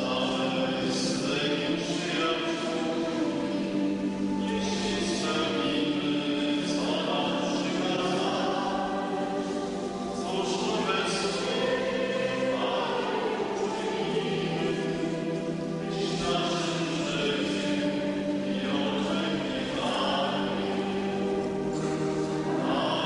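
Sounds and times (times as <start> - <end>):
choir singing a slow hymn: 0.0 - 23.0.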